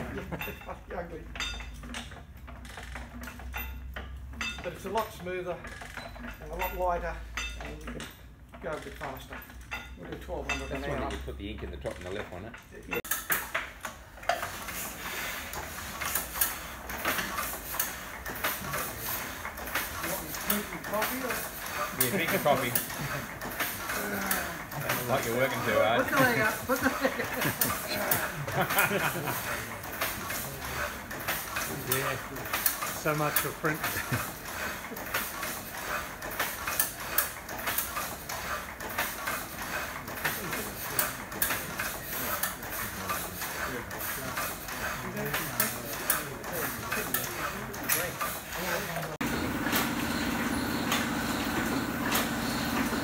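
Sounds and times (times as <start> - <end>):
printing press clacking: 0.0 - 53.0
steady mechanical clatter: 0.0 - 53.0.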